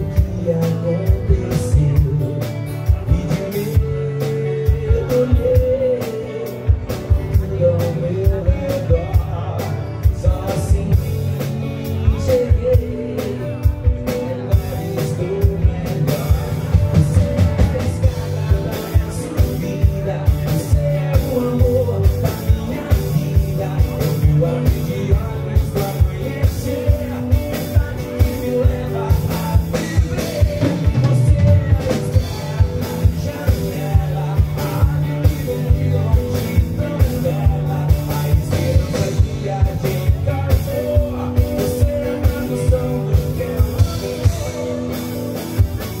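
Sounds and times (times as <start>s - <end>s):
acoustic guitars: 0.0s - 46.0s
man singing: 0.0s - 46.0s.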